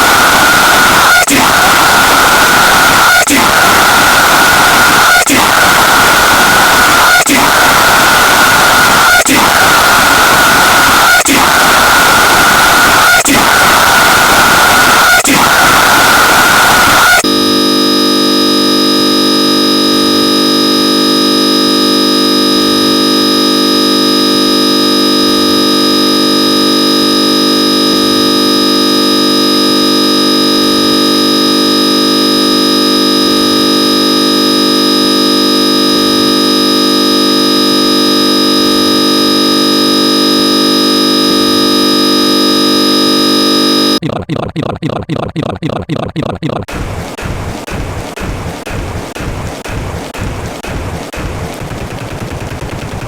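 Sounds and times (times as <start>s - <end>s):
electronic buzzing tone: 0.0s - 46.7s.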